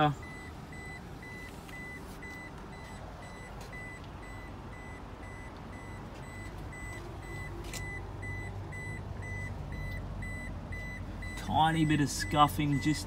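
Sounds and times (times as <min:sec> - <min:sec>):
low vehicle rumble: 0:00.0 - 0:13.0
electronic warning beeper: 0:00.2 - 0:13.0.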